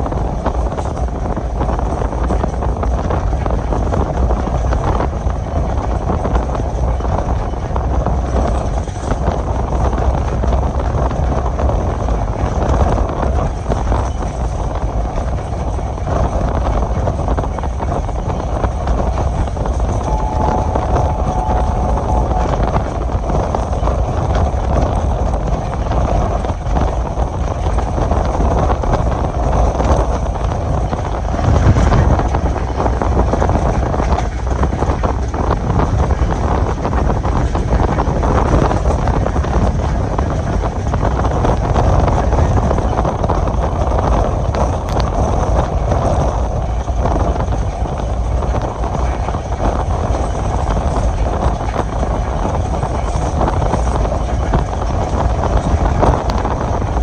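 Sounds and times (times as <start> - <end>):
track rattling clatter: 0.0 - 57.0
train jolt: 0.0 - 57.0
train wheels rumbling on rails: 0.0 - 57.0
wind noise: 0.0 - 57.0.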